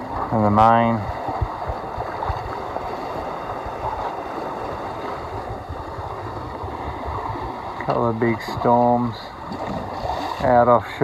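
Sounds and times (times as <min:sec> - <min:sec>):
water rushing: 0:00.0 - 0:11.0
wind: 0:00.0 - 0:11.0.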